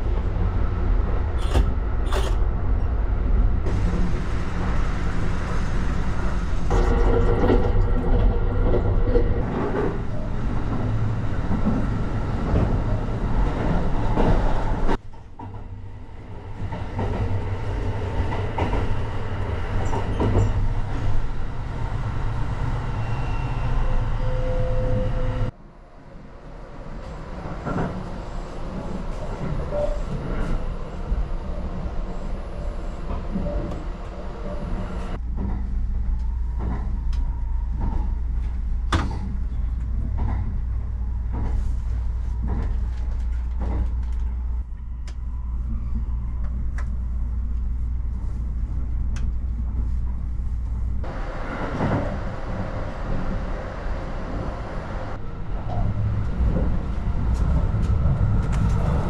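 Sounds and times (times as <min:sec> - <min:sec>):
train running gear rumble: 0:00.0 - 0:25.6, 0:26.4 - 0:59.0.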